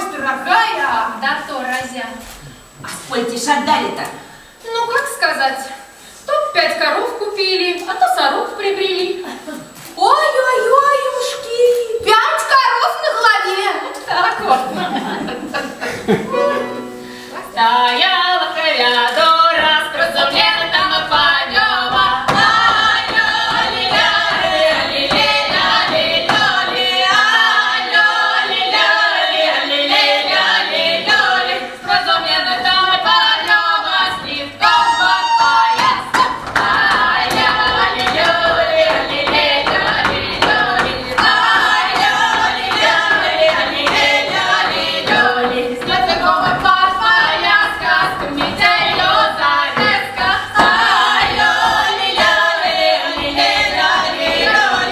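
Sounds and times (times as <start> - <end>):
women singing a cappella: 0.0 - 54.9.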